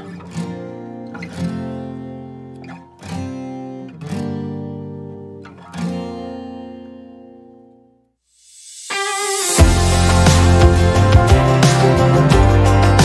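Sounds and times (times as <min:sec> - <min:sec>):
strummed acoustic guitar chords: 0:00.0 - 0:07.7, 0:08.9 - 0:13.0.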